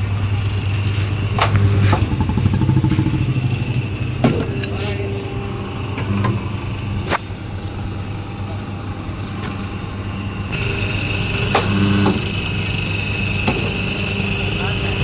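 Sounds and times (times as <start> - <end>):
high whine: 0.0 - 15.0
machine motor hum: 0.0 - 15.0.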